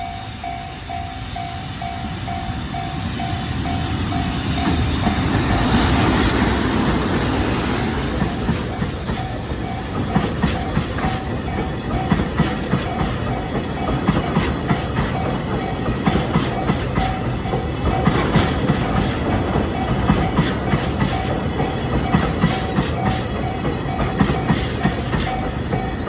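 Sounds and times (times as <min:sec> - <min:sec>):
freight train passing: 0:00.0 - 0:26.0
train wheels clacking on rail joints: 0:01.8 - 0:26.0.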